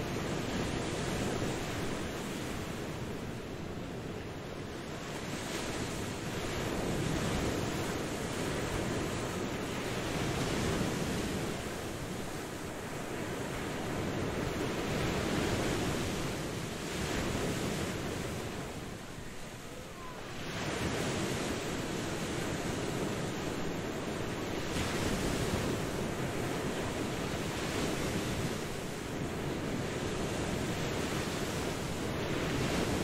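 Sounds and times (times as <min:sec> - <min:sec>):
ocean waves washing on shore: 0:00.0 - 0:33.0.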